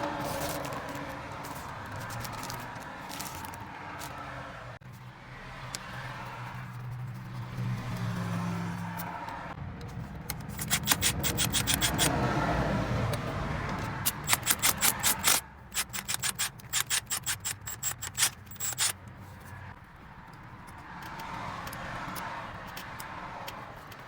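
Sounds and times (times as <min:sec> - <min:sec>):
hand tool clicking and rasping: 0:00.0 - 0:04.3, 0:05.6 - 0:24.0.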